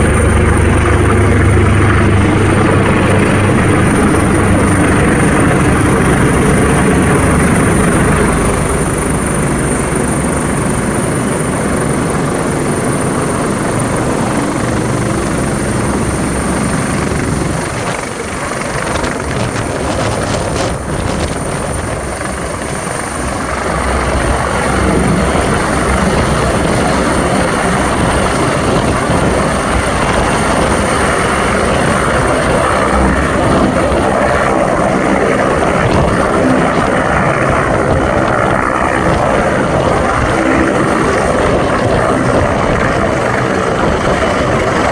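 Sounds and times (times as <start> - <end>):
helicopter engine and rotor noise: 0.0 - 44.9.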